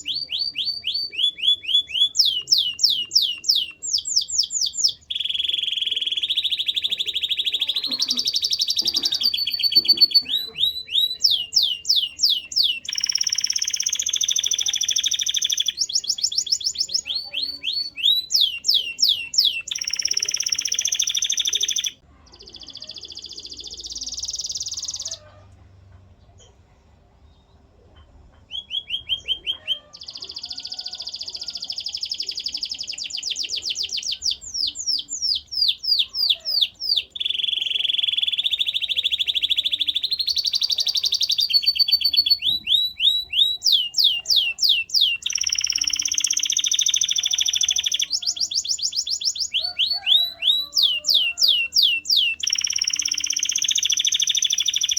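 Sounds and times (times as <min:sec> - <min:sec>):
canary singing: 0:00.0 - 0:25.5, 0:28.4 - 0:54.9.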